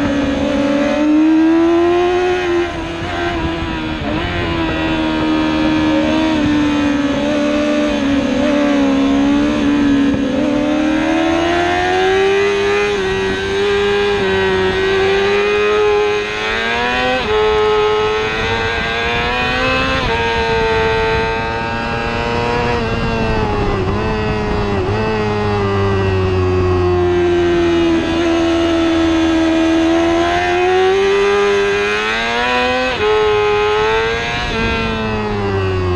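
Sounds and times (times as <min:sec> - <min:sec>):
motorcycle engine revving high: 0:00.0 - 0:35.9.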